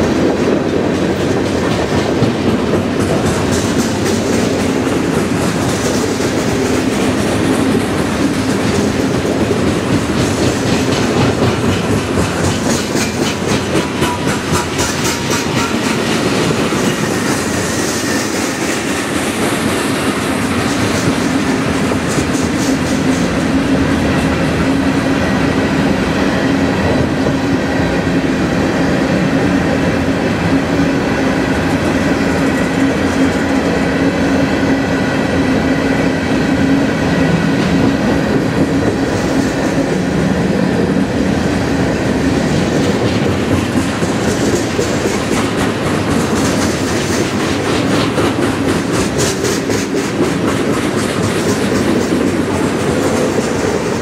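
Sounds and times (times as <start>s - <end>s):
wheels clacking over rail joints: 0.0s - 28.2s, 35.8s - 54.0s
freight train rolling past: 0.0s - 54.0s.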